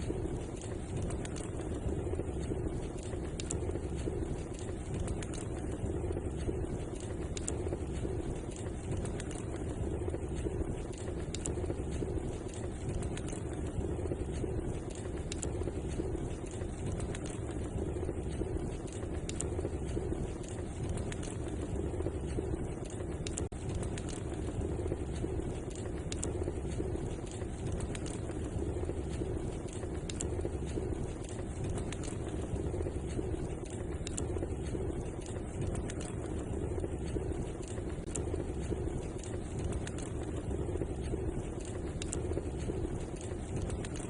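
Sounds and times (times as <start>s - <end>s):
low rumble: 0.0s - 44.0s
wood fire crackling: 0.0s - 44.0s.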